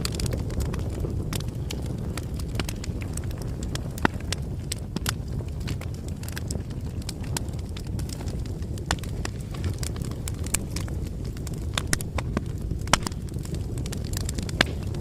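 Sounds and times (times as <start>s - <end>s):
bonfire crackling and popping: 0.0s - 15.0s
low rumble of burning wood: 0.0s - 15.0s.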